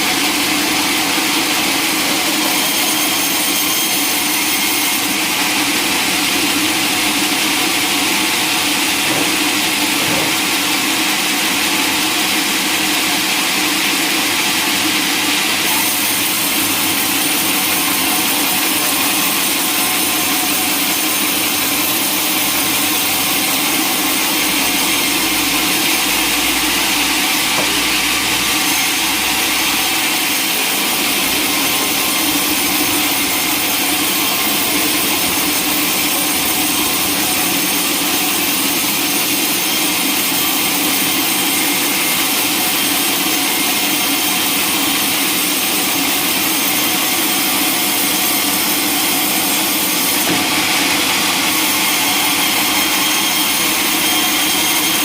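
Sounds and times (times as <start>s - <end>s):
saw cutting through log: 0.0s - 55.0s.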